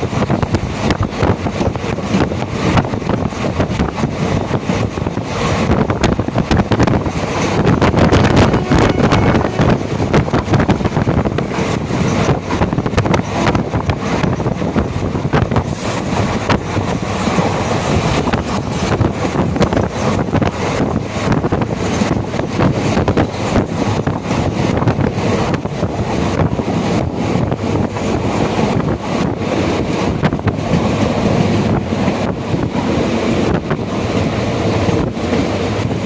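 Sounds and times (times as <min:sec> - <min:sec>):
train wheels rattling on track: 0:00.0 - 0:36.0
wind buffeting microphone: 0:00.0 - 0:36.0.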